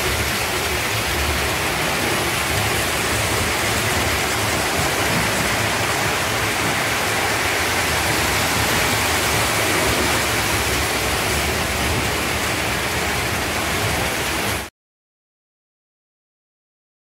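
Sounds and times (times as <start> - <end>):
toy trains running on metal track: 0.0 - 14.7.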